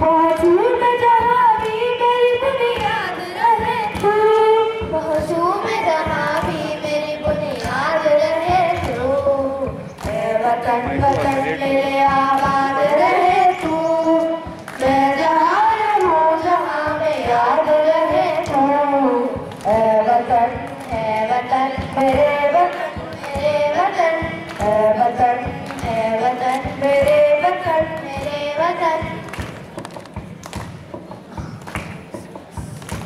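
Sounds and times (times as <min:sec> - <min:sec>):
children singing into microphones: 0:00.0 - 0:30.3.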